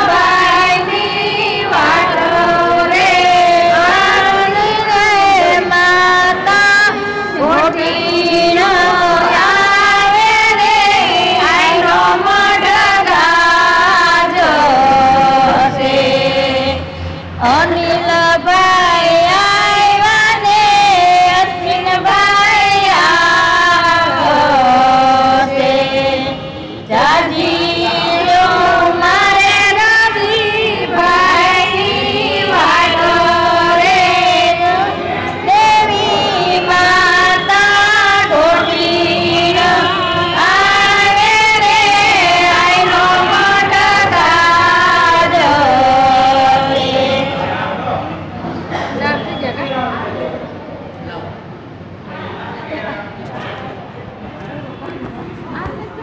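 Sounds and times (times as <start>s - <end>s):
women singing in chorus: 0.0s - 48.9s.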